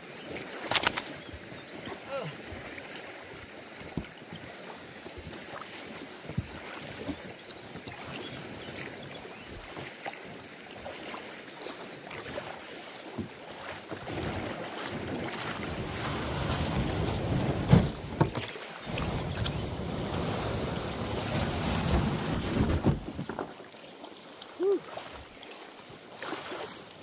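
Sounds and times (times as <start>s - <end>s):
water lapping: 0.0s - 27.0s.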